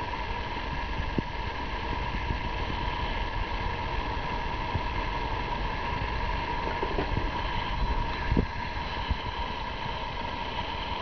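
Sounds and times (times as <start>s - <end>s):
steady noise: 0.0s - 11.0s.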